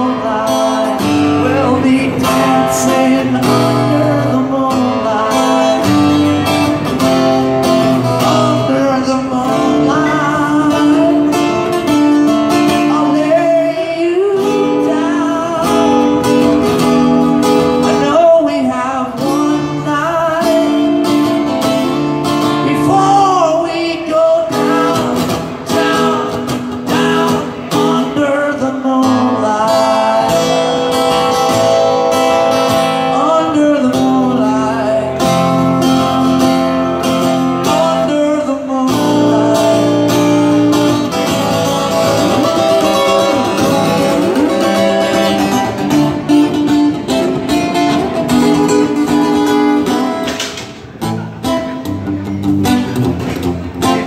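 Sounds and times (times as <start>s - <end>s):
man singing: 0.0s - 50.4s
acoustic guitar strumming: 0.0s - 54.0s.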